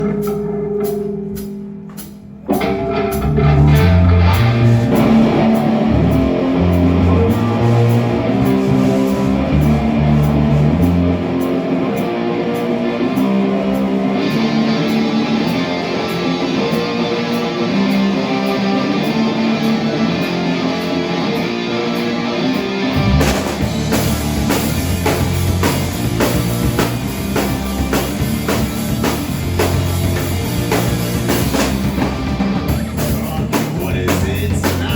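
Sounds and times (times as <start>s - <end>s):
rock band playing: 0.0s - 34.9s.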